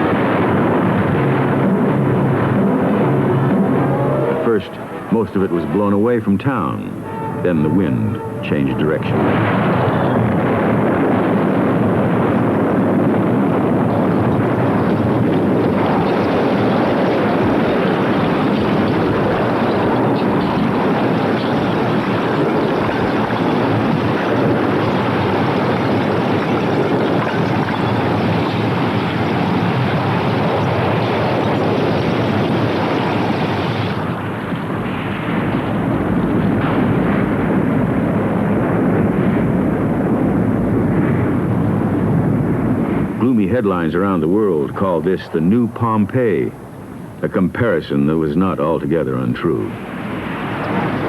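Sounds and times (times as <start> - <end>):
volcanic eruption rumbling roar: 0.0 - 51.0.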